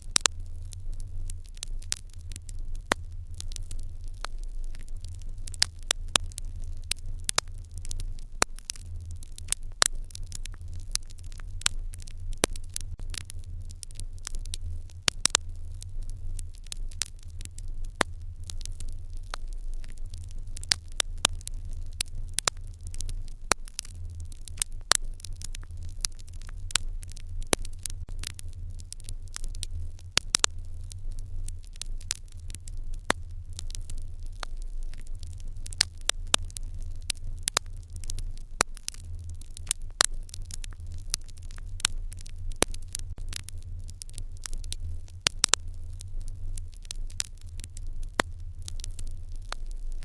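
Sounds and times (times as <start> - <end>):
fire crackling and popping: 0.0 - 50.0
low steady hum: 0.0 - 50.0.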